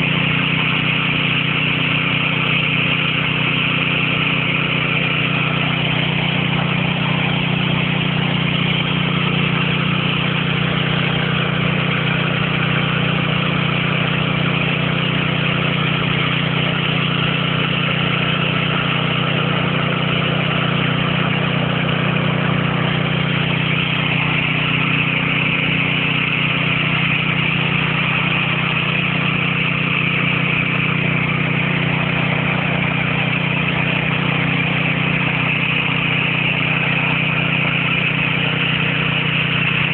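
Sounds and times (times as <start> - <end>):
water gushing from pipe: 0.0 - 39.9
water pump engine running: 0.0 - 39.9.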